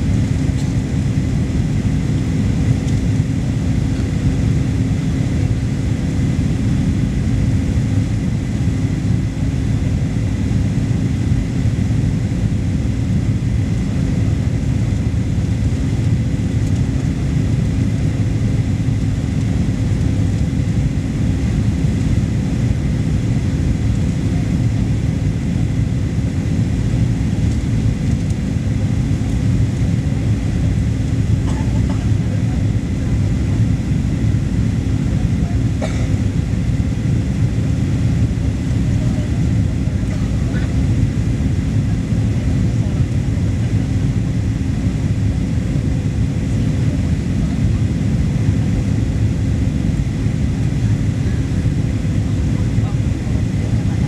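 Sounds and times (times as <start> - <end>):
jet engines rumbling in cabin: 0.0 - 54.0
steady cabin hum: 10.2 - 54.0.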